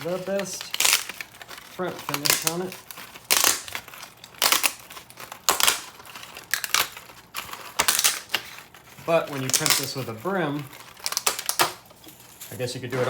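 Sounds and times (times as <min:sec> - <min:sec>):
plastic links clattering and crinkling: 0:00.0 - 0:13.0.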